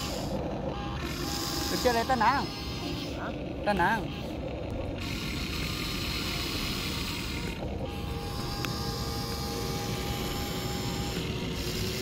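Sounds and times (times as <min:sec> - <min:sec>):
faint steady whine: 0:00.0 - 0:12.0
small motor whirring: 0:00.0 - 0:12.0.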